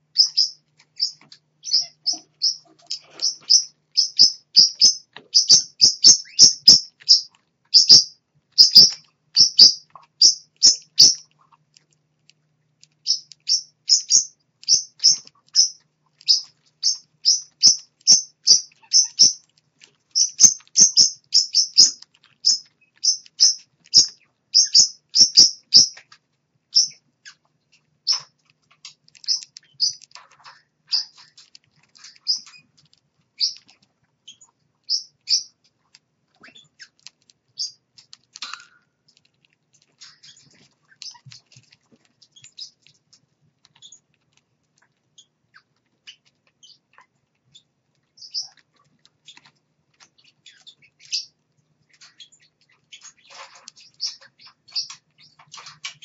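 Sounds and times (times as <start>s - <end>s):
baby parrots chirping: 0.1s - 11.6s, 13.0s - 19.5s, 20.1s - 32.8s, 33.4s - 38.7s, 40.0s - 43.0s, 43.7s - 44.1s, 45.2s - 56.0s.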